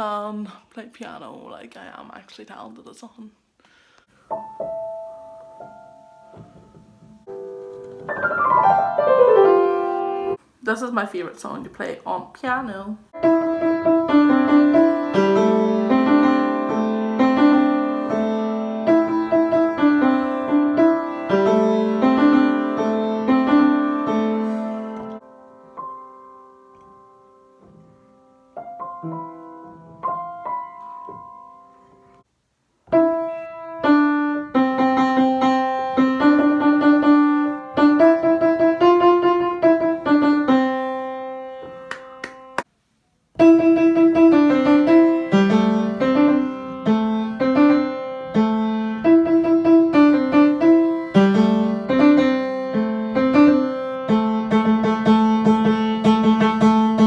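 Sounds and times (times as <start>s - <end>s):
upright piano playing: 4.2s - 10.4s, 13.1s - 32.3s, 32.9s - 42.7s, 43.4s - 57.0s.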